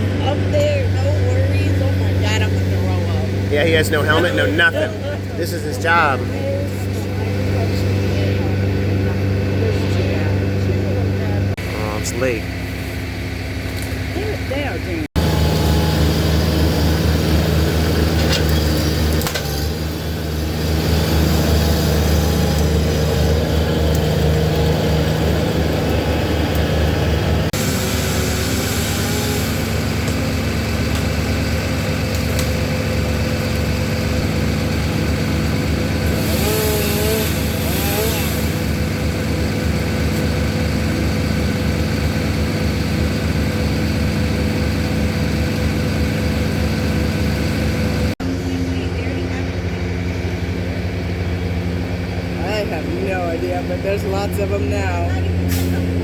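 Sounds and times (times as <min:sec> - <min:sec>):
heavy engine droning: 0:00.0 - 0:56.0.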